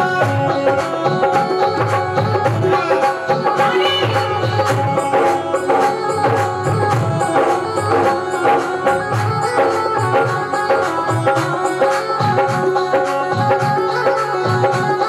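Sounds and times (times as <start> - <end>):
electronic keyboard melody: 0.0 - 15.0
hand drum rhythm: 0.0 - 15.0.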